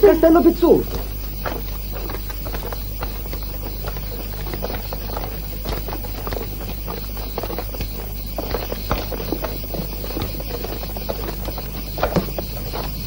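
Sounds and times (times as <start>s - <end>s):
film soundtrack hiss: 0.0s - 13.0s
low mains hum: 0.0s - 13.0s.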